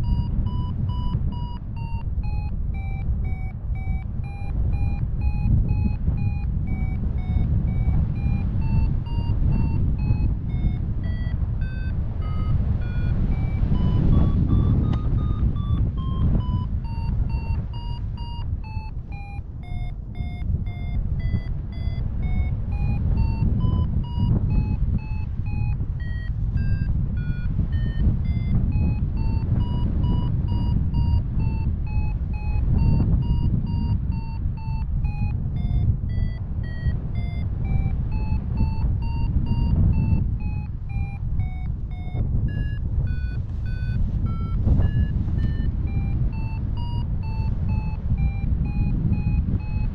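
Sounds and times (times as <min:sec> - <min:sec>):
variometer beeping: 0:00.0 - 0:49.9
wind rush on microphone: 0:00.0 - 0:49.9.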